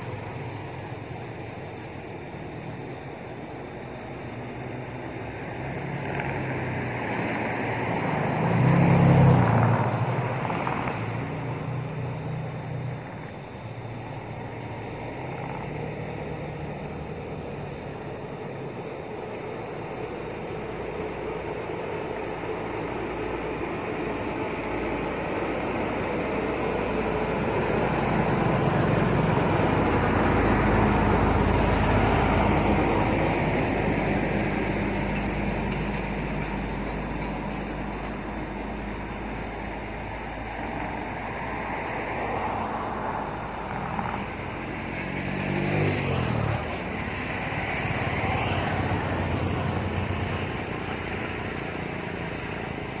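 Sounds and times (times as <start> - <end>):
passing motor traffic: 0.0 - 53.0.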